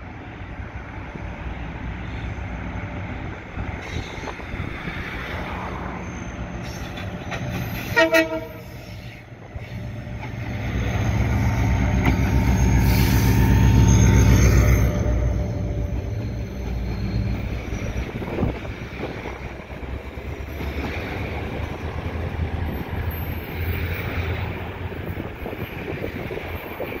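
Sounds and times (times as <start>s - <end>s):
diesel locomotive engine: 0.0s - 27.0s
train cars rolling on rails: 0.0s - 27.0s.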